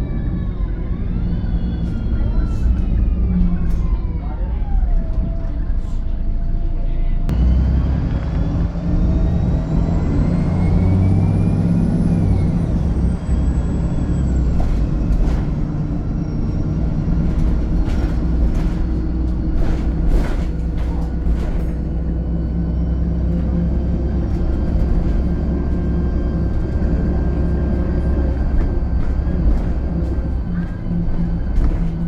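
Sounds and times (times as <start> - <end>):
bus diesel engine whining: 0.0 - 32.0.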